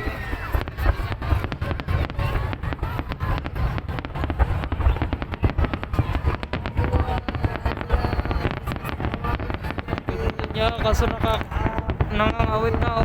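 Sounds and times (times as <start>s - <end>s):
fireworks bangs and crackles: 0.0s - 13.0s
low fireworks booms: 0.0s - 13.0s.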